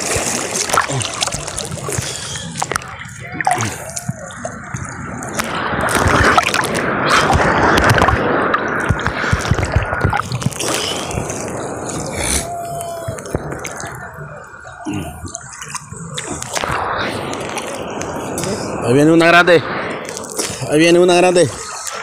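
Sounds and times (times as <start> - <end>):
seawater sloshing and splashing: 0.0 - 18.9
rush of water: 0.0 - 22.0.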